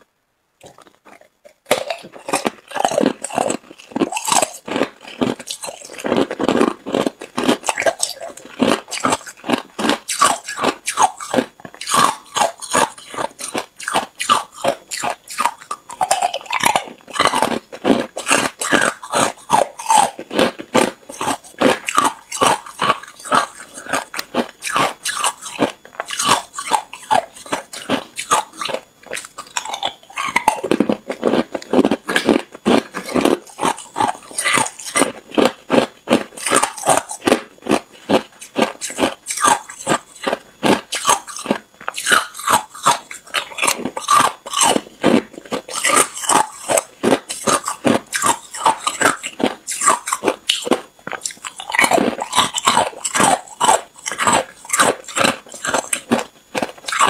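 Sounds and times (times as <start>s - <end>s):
ice cubes crunching between teeth: 0.6s - 57.0s.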